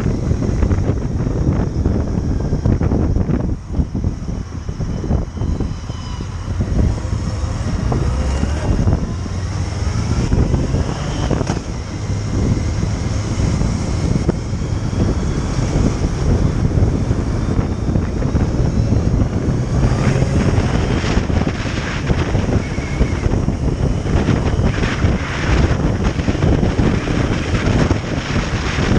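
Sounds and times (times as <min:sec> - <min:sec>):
motorcycle engine running: 0:00.0 - 0:28.9
wind noise on microphone: 0:00.0 - 0:28.9.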